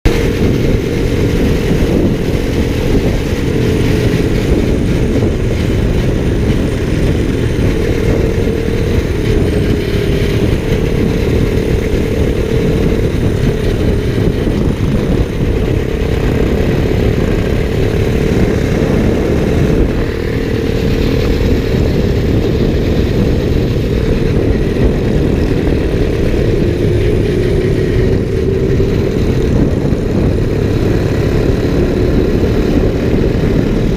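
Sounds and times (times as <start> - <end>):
low wind rumble: 0.0 - 33.9
motorcycle engine running: 0.0 - 33.9.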